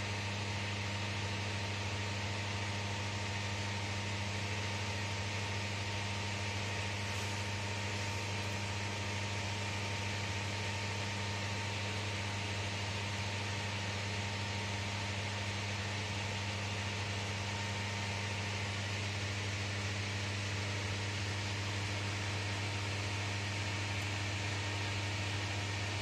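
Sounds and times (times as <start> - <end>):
fan unit hissing and humming: 0.0 - 26.0.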